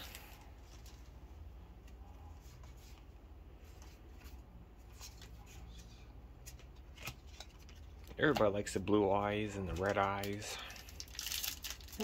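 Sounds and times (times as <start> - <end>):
low steady hum: 0.0 - 12.0
trading cards rustling: 1.8 - 12.0.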